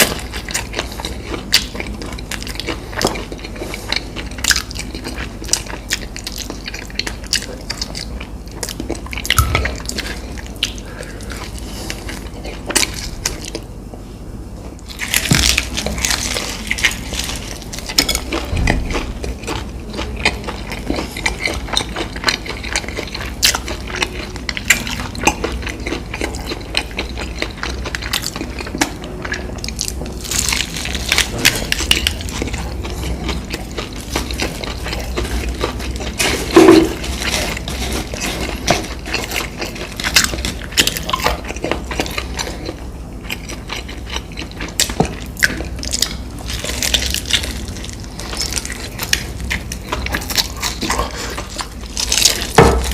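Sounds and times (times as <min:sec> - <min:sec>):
chewing and crunching fried food: 0:00.0 - 0:52.9.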